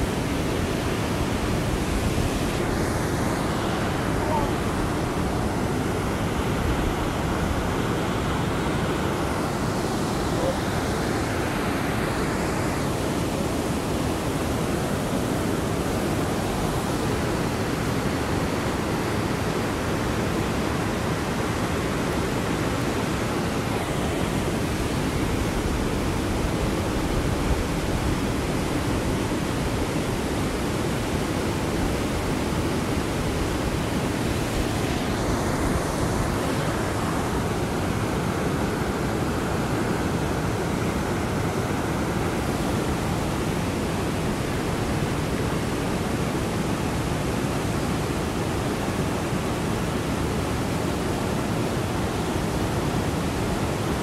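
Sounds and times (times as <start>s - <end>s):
river rapids rushing over rocks: 0.0s - 54.0s.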